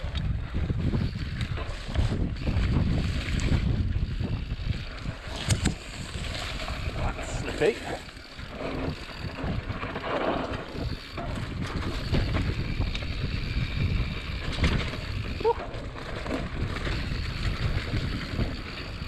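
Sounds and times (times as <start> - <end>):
bike rattling: 0.0 - 19.0
tyres rumbling over dirt: 0.0 - 19.0
wind buffeting microphone: 0.0 - 19.0.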